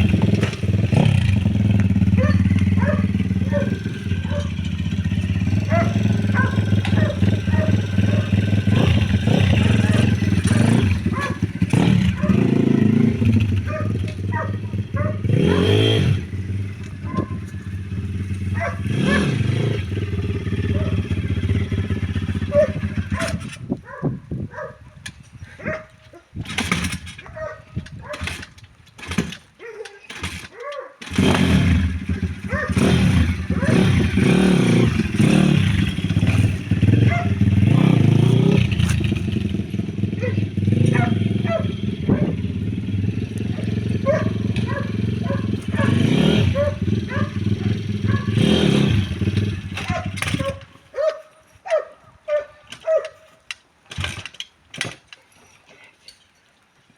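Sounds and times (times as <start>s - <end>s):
motorcycle engine running unevenly: 0.0s - 23.7s, 26.4s - 50.8s.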